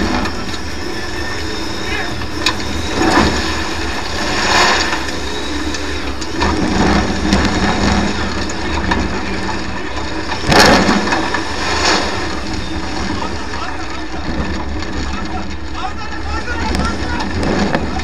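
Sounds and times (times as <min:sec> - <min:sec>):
race car engine running hard: 0:00.0 - 0:18.0.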